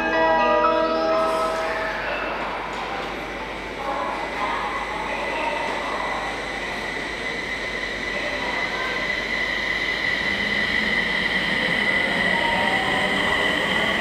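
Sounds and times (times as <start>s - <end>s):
train wheels rumbling: 2.4s - 14.0s.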